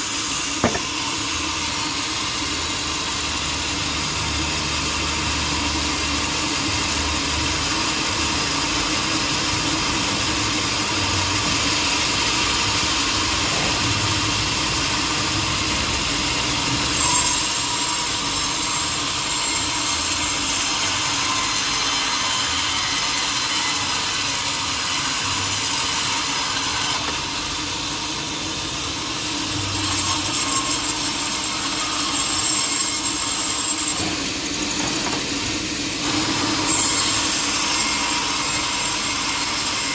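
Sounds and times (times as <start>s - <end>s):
saw machine humming: 0.0s - 39.9s
saw rasping through wood: 0.0s - 39.9s.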